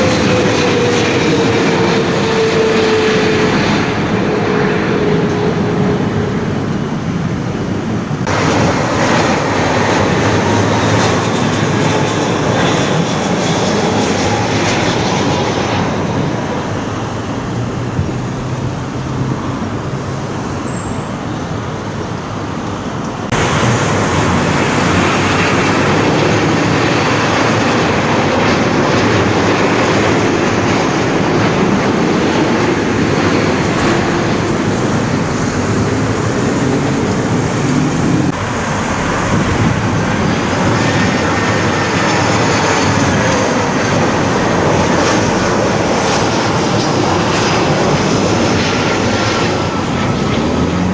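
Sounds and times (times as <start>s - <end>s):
jet airliners passing low: 0.0s - 50.9s.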